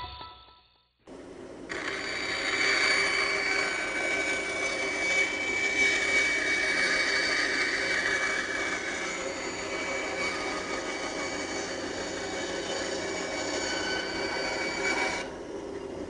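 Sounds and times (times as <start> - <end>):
bandsaw running with high whine: 1.7 - 15.5.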